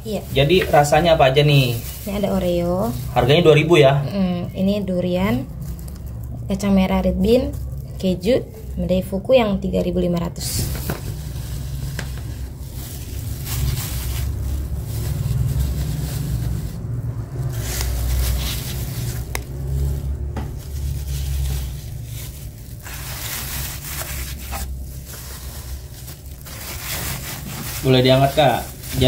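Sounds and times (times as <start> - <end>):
plastic glove rustling: 0.0 - 9.2, 10.1 - 29.0
low rumble: 4.1 - 27.8.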